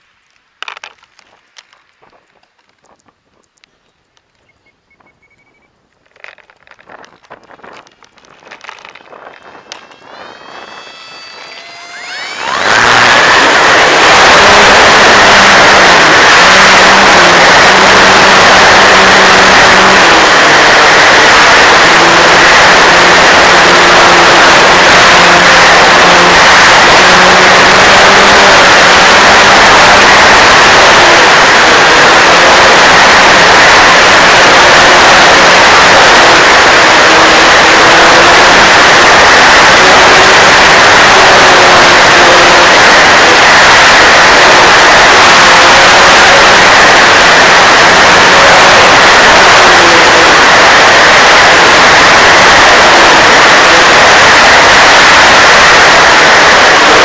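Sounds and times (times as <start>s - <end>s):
model plane motor and propeller: 5.3s - 57.0s
rush of wind noise: 6.0s - 57.0s.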